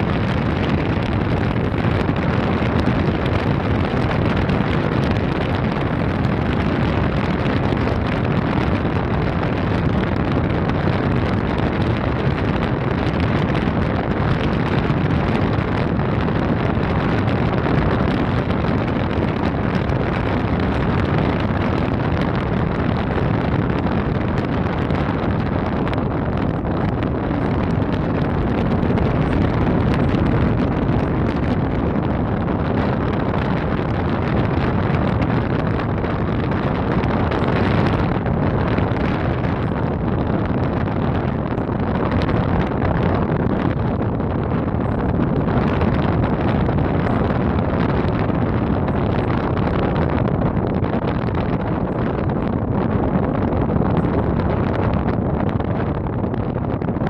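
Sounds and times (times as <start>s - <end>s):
boat engine running: 0.0s - 57.0s
wind rushing over microphone: 0.0s - 57.0s.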